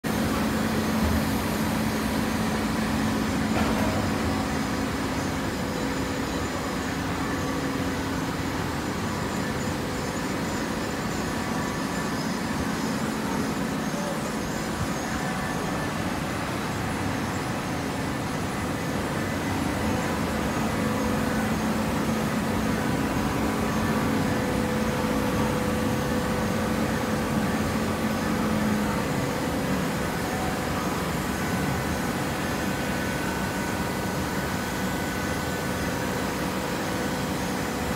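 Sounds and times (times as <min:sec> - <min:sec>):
baler mechanical hum: 0:00.0 - 0:37.9
held low machine tone: 0:00.0 - 0:37.9.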